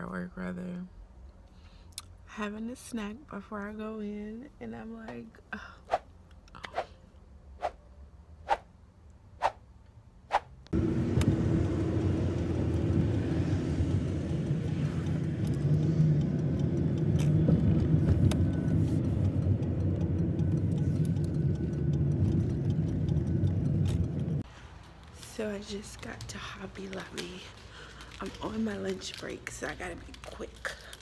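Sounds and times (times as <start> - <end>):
car engine and tyre rumble: 6.0 - 31.0.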